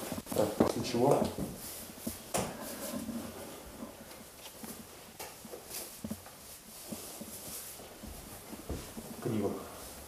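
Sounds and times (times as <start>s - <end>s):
jacket rustling: 0.0s - 10.0s.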